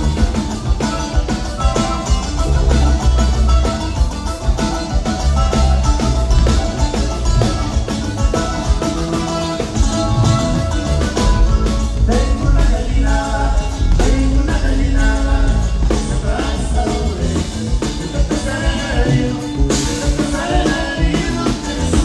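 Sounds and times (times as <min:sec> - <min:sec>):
band playing live music: 0:00.0 - 0:22.0.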